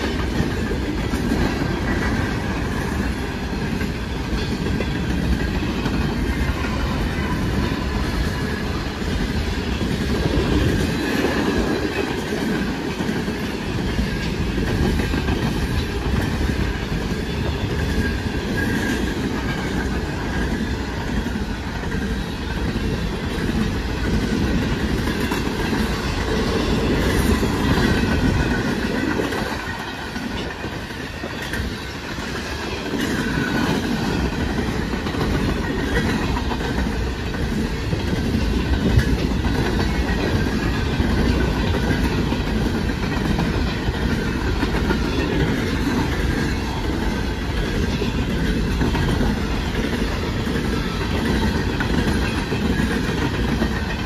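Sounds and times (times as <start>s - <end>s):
freight train cars rolling: 0.0s - 54.0s.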